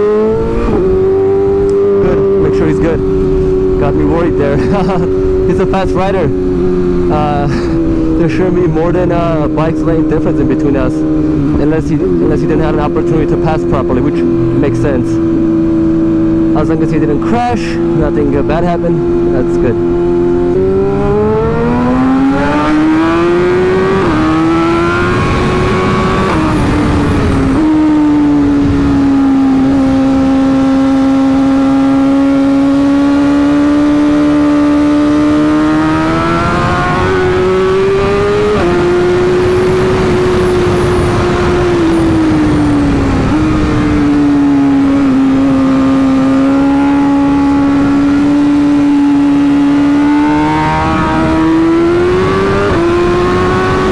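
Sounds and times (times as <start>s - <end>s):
motorcycle engine revving: 0.0s - 53.9s
wind rush on camera: 0.0s - 53.9s.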